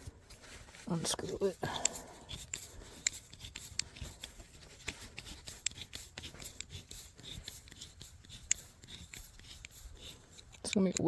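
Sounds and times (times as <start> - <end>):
hose clamp clicking: 1.8 - 11.0.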